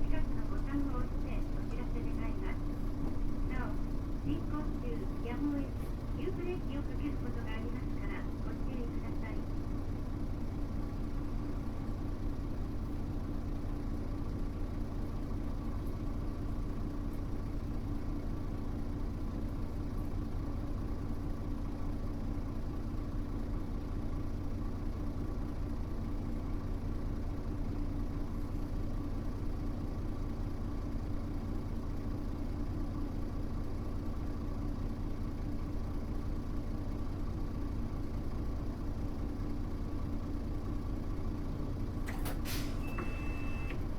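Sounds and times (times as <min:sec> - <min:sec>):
bus diesel engine idling: 0:00.0 - 0:43.9.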